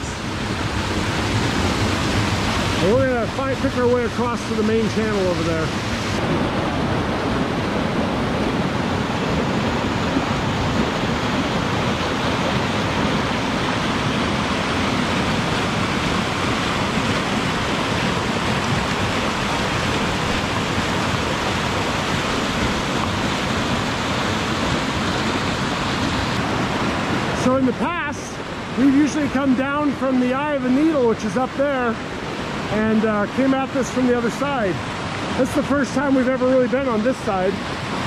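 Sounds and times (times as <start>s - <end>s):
river rapids rushing: 0.0s - 38.0s.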